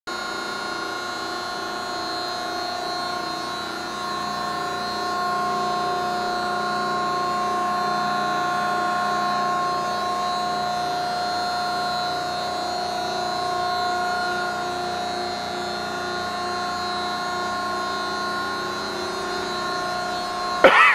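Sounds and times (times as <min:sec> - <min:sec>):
hydraulic pump whining hum: 0:00.1 - 0:20.9.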